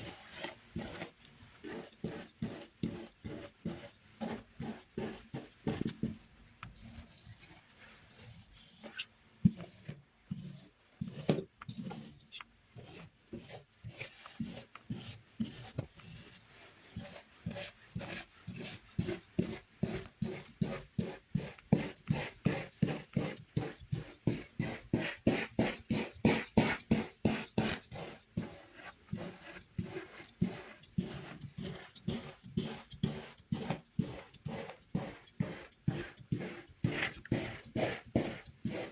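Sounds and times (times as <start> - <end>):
knife cutting kinetic sand: 0.0 - 6.0, 8.2 - 16.3, 16.9 - 38.9.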